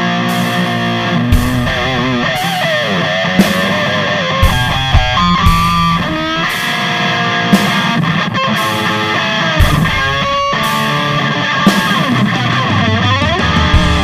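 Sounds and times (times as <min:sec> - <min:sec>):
drums: 0:00.0 - 0:14.0
electric guitar bending notes: 0:00.0 - 0:14.0.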